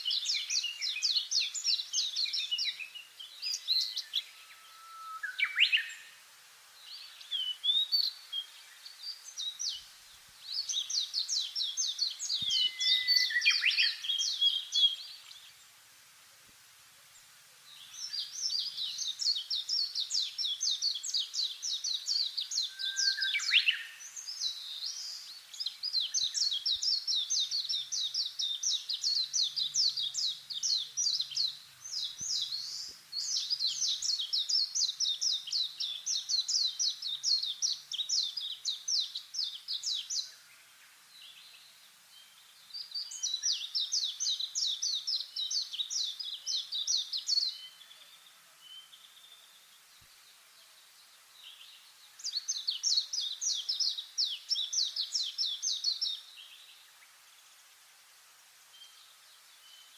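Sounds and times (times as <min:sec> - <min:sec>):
lower sweeping bird calls: 0:00.0 - 0:15.8, 0:17.6 - 0:57.8
songbirds twittering: 0:00.0 - 0:16.1, 0:17.0 - 0:59.9.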